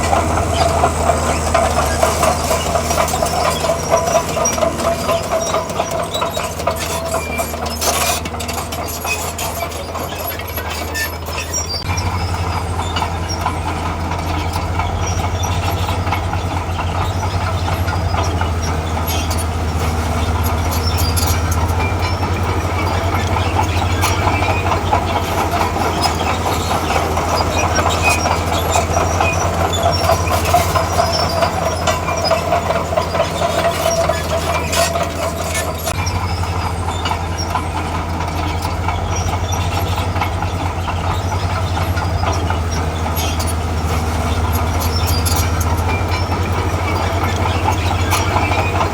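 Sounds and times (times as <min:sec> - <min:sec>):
diesel engine running: 0:00.0 - 0:48.9
steel tracks clanking: 0:00.0 - 0:48.9.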